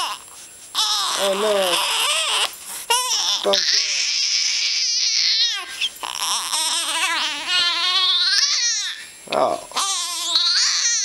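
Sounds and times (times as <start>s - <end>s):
baby crying: 0.0s - 9.0s, 9.7s - 11.0s.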